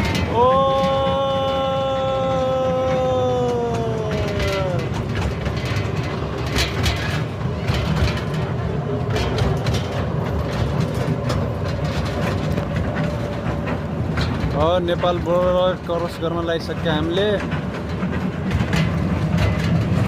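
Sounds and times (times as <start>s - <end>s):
train knocks and clanks: 0.0s - 20.0s
train rumbling: 0.0s - 20.0s.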